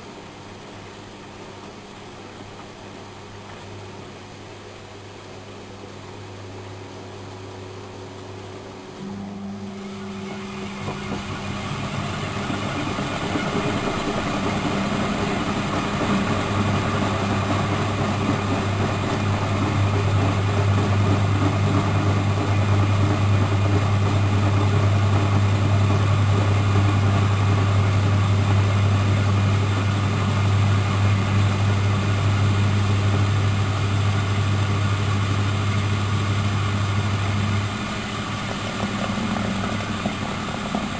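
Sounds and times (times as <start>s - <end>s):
washing machine motor humming: 0.0s - 40.9s.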